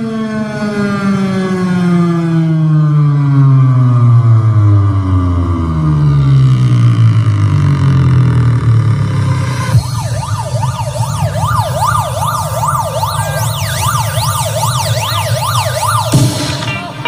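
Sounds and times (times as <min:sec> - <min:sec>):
wailing siren effect: 0:00.0 - 0:17.0
deep bass drone: 0:01.3 - 0:17.0.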